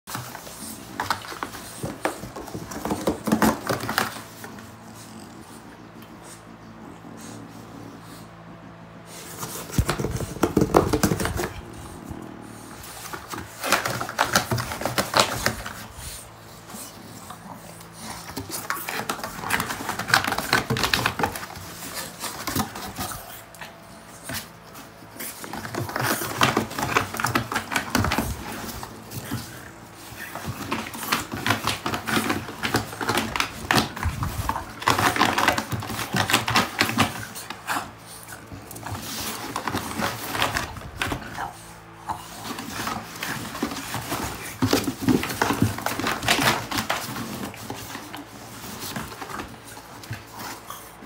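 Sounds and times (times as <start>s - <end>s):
dog claws scratching cardboard: 0.1s - 5.6s, 9.1s - 51.0s.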